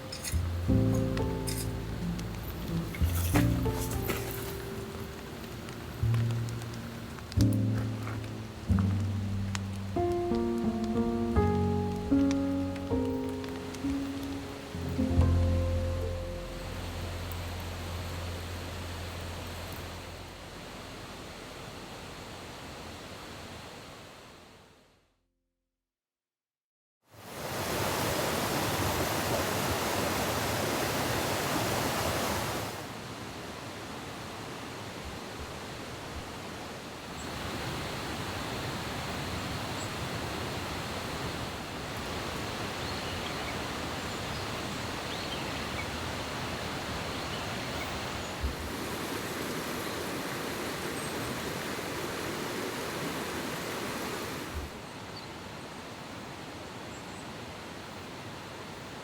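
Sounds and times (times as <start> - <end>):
rushing outdoor ambient noise: 0.0 - 24.7, 27.2 - 59.0.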